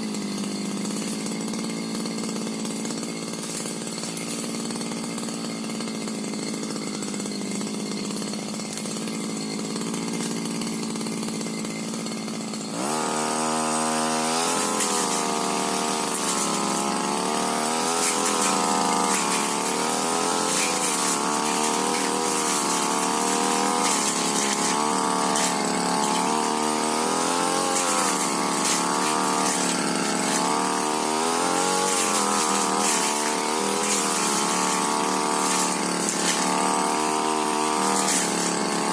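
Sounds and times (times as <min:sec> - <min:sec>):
brush cutter engine revving: 0:00.1 - 0:38.9.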